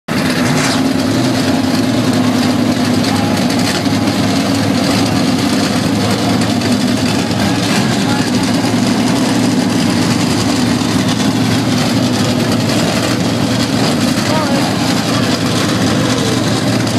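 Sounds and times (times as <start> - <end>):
car engine idling: 0.1 - 16.9.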